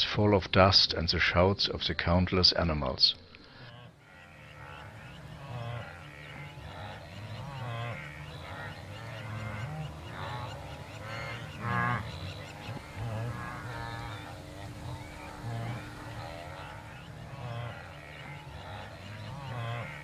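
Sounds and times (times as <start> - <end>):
wildebeest grunting calls: 3.4 - 20.0.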